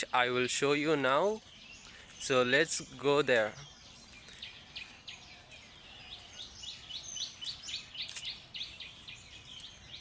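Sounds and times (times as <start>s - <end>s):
birds chirping: 0.0s - 10.0s
faint outdoor background noise: 0.0s - 10.0s.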